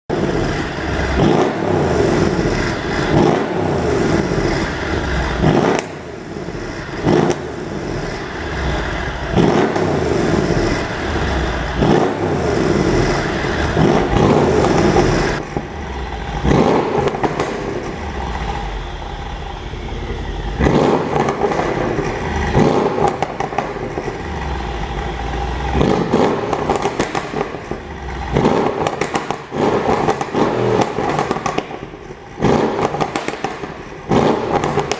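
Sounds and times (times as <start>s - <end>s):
car engine revving: 0.1s - 34.9s
exhaust pops and crackles: 0.1s - 34.9s.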